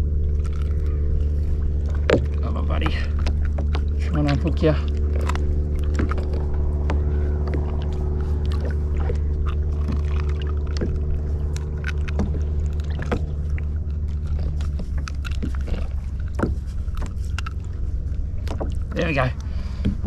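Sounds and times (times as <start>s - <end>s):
boat motor humming: 0.0s - 20.0s
clicks and knocks of unhooking fish: 0.3s - 20.0s.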